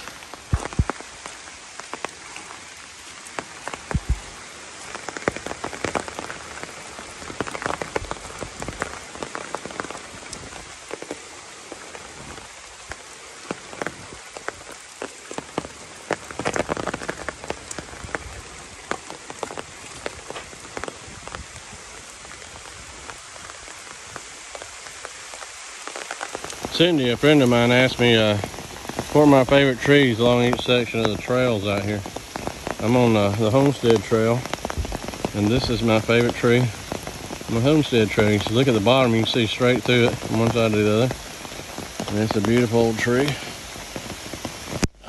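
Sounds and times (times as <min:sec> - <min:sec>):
rain falling through trees: 0:00.0 - 0:45.0
raindrops ticking nearby: 0:00.0 - 0:45.0.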